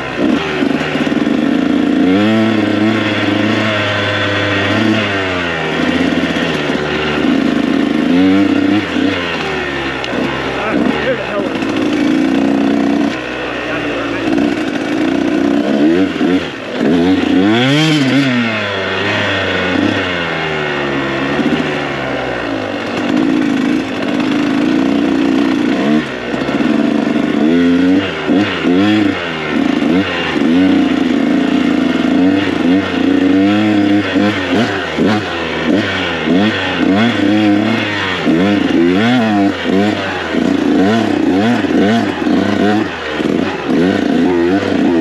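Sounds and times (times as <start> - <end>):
two-stroke dirt bike engine revving: 0.0 - 45.0.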